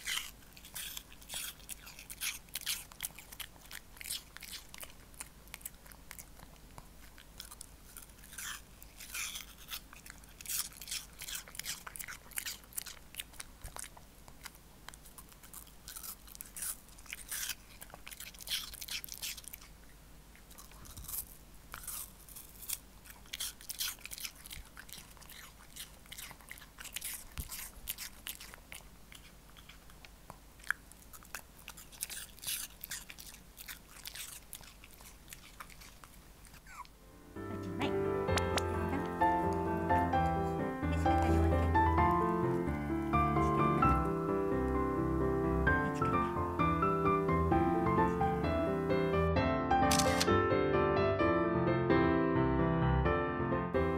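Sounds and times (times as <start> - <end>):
dog crunching apple: 0.0 - 37.0, 37.7 - 48.4.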